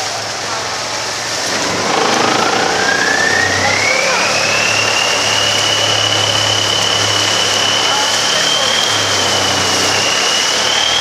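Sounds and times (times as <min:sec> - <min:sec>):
motorboat engine revving: 0:00.4 - 0:11.0.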